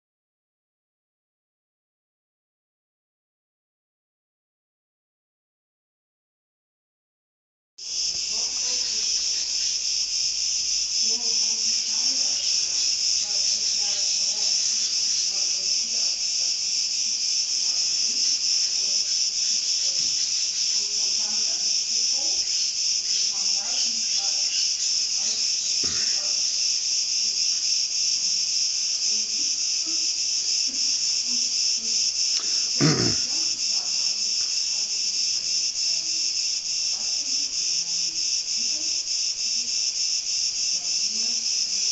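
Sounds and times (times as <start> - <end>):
high-pitched insect chorus: 7.8 - 41.9.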